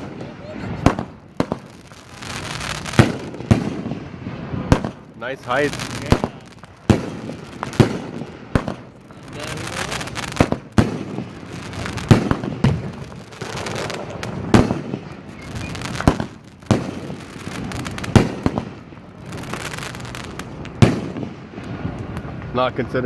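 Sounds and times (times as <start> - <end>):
fireworks bursting: 0.0 - 23.0
hiss and rumble: 0.0 - 23.0.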